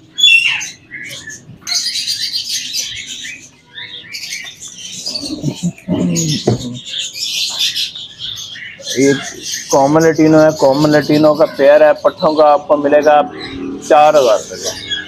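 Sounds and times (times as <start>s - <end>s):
small parrots chirping: 0.0s - 15.0s.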